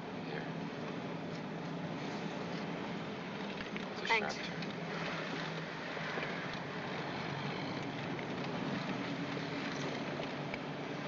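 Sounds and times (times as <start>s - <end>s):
road and tyre noise: 0.0s - 11.0s.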